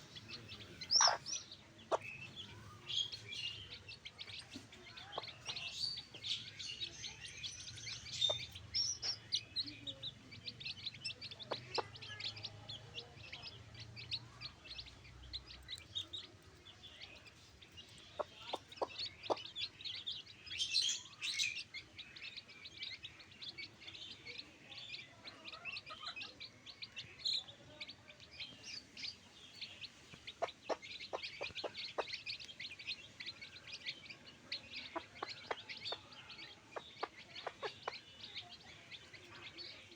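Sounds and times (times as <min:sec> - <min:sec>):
chickens chirping: 0:00.0 - 0:39.9
chickens clucking: 0:00.0 - 0:39.9.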